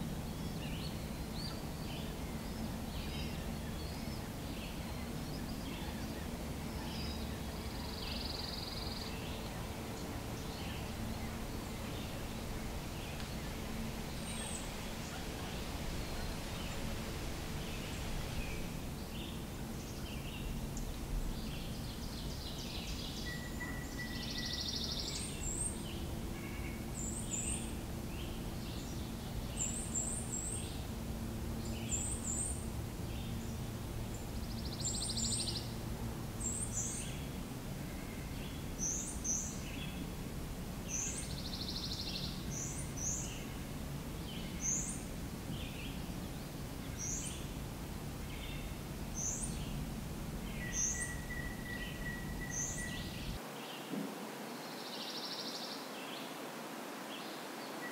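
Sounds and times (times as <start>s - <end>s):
birds chirping: 0.0s - 56.4s
low background noise: 0.0s - 57.9s.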